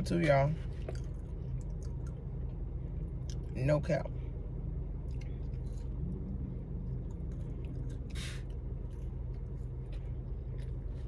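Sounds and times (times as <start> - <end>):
low rumble and hum: 0.0 - 11.0.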